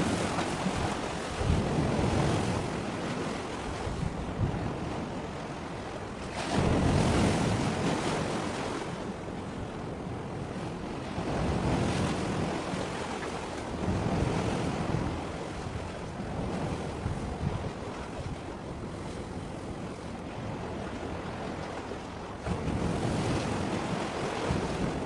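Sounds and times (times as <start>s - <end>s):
sea waves washing ashore: 0.0s - 25.0s
wind buffeting microphone: 0.0s - 25.0s.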